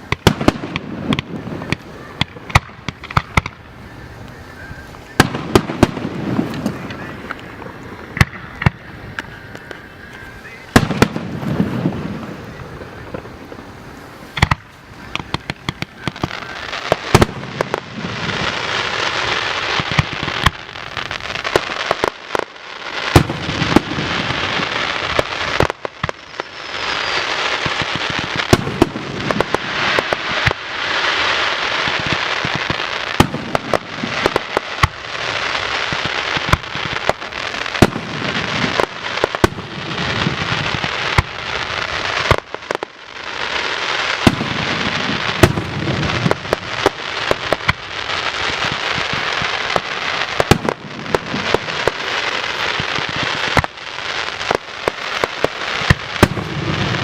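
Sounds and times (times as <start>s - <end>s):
crackle of bursting fireworks: 0.0s - 57.0s
fireworks bangs: 0.0s - 57.0s.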